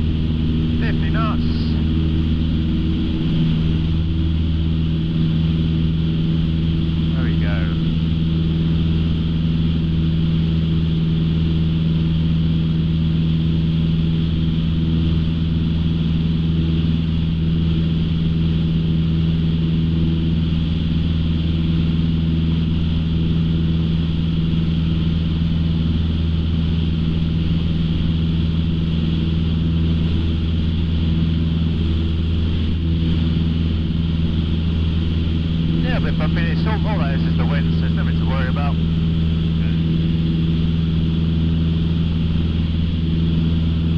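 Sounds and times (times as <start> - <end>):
aircraft engine droning: 0.0 - 43.9.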